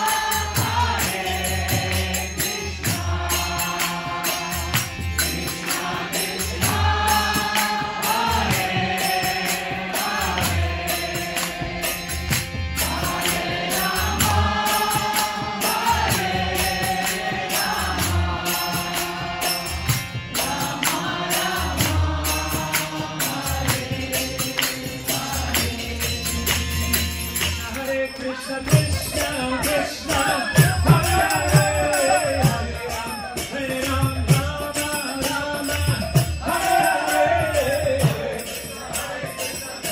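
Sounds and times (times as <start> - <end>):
voices singing along: 0.0 - 27.0, 27.6 - 39.9
harmonium: 0.0 - 39.9
sharp percussion strikes: 0.0 - 39.9.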